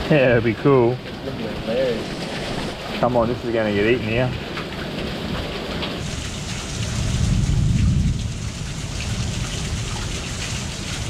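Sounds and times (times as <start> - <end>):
heavy rain falling: 0.0 - 11.0
low rumble of thunder: 0.0 - 11.0.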